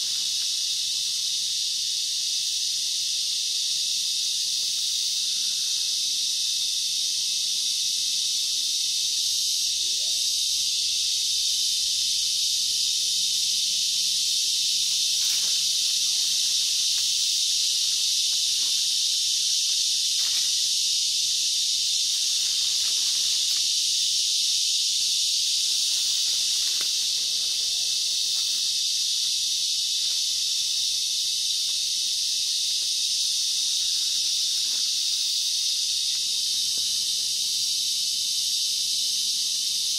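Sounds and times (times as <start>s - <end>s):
rainforest insects droning: 0.0s - 39.9s.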